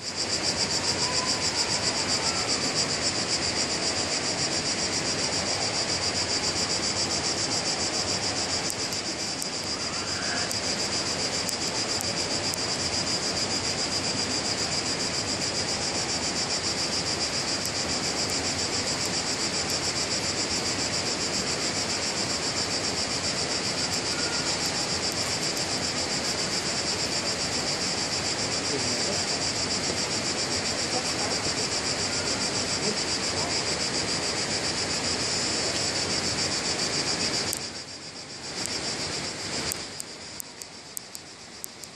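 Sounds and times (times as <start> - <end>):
cicadas buzzing: 0.0 - 41.9.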